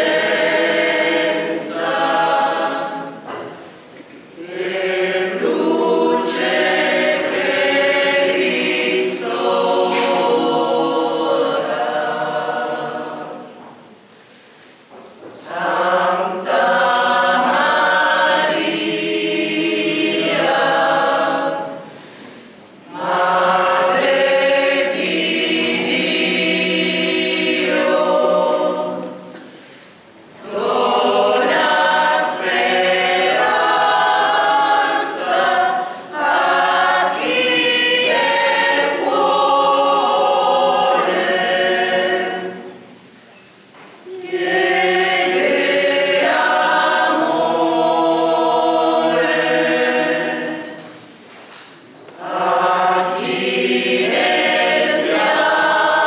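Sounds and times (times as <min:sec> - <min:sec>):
mixed choir singing a cappella: 0:00.0 - 0:14.4, 0:15.1 - 0:43.2, 0:44.0 - 0:51.3, 0:51.9 - 0:56.0.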